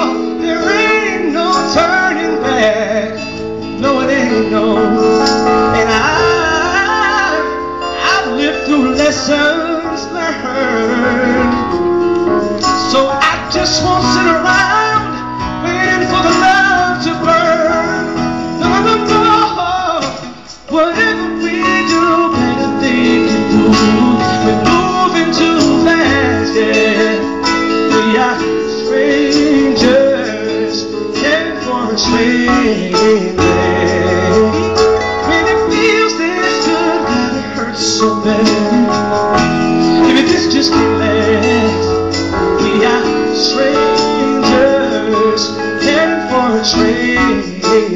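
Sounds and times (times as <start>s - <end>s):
acoustic guitar: 0.0s - 47.9s
keyboard: 0.0s - 47.9s
man singing amplified vocal: 0.0s - 47.9s.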